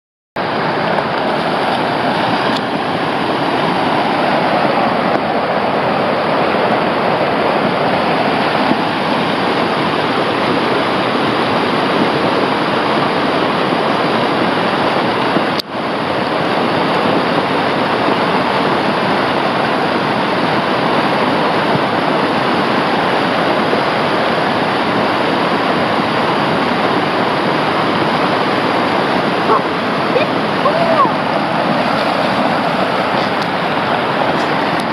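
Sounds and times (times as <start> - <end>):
flood water rushing over rocks: 0.4 - 34.9.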